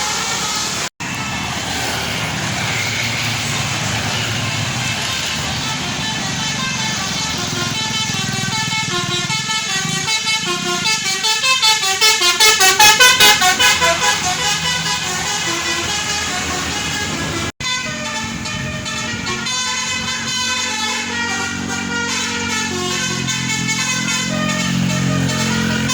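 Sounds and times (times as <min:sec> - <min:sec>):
multi-tone bus horn tune: 0:00.0 - 0:00.9, 0:03.4 - 0:25.9.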